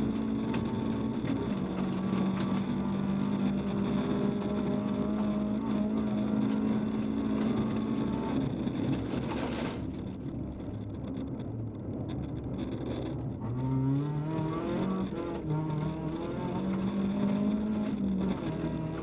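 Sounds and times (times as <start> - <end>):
car engine revving: 0.0 - 10.0, 12.5 - 19.0.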